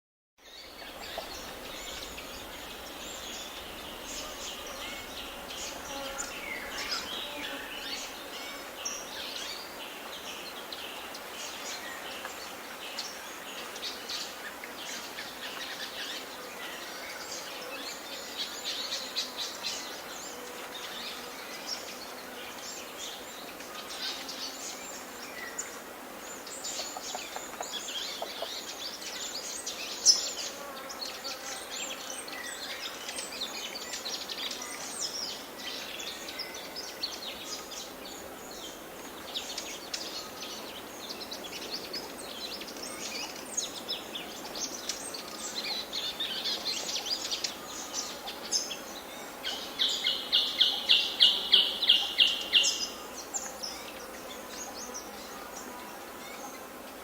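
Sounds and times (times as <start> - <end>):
birds chirping and twittering: 0.4 - 57.0
steady background hiss: 0.4 - 57.0.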